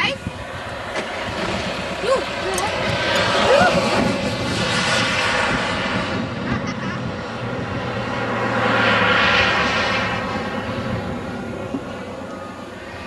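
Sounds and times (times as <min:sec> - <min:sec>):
model jet turbine whine: 0:00.0 - 0:13.0.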